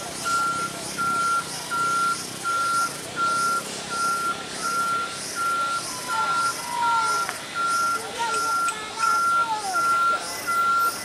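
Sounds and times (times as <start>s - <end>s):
truck reversing alarm beeping: 0.0s - 11.0s.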